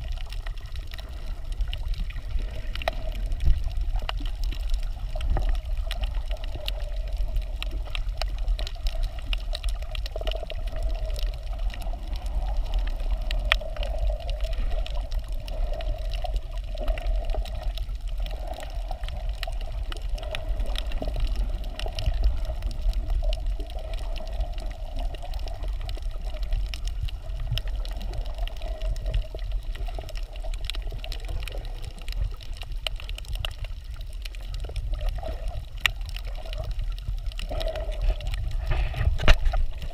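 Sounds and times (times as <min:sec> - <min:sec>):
faint clicks and crackles: 0:00.0 - 0:39.9
muffled underwater water wash: 0:00.0 - 0:39.9.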